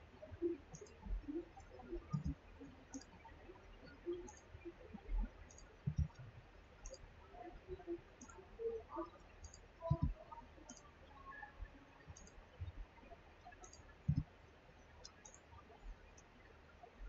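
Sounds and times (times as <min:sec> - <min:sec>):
computer mouse clicks: 0:00.4 - 0:07.0, 0:07.7 - 0:12.8, 0:13.4 - 0:14.3, 0:15.0 - 0:16.4.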